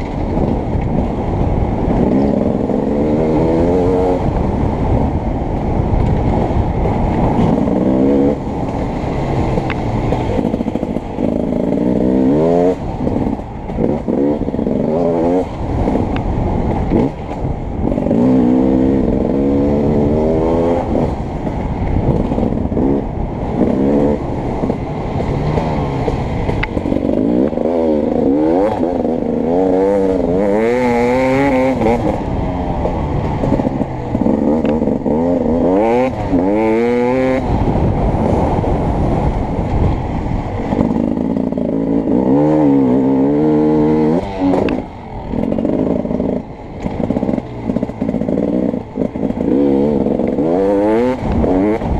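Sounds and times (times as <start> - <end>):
dirt bike engine revving: 1.8 - 5.0, 7.3 - 21.4, 22.0 - 51.9.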